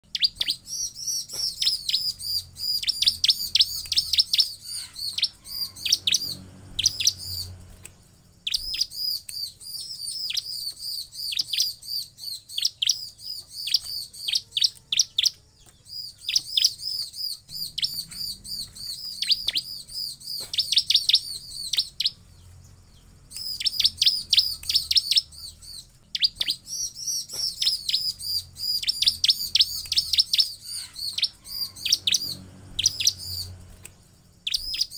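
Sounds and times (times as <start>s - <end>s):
bird sharp high chirps: 0.0s - 34.9s.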